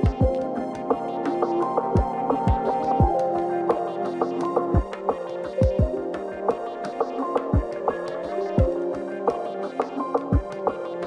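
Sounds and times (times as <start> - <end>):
beat music: 0.0 - 11.0.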